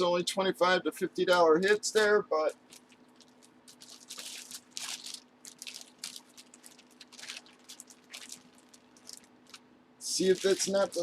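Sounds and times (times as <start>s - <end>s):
packaging crinkling and rustling: 1.6s - 11.0s.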